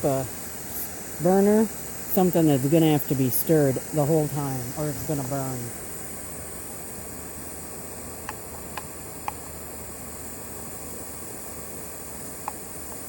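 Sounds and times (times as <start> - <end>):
camp stove burner hissing: 0.0 - 13.0.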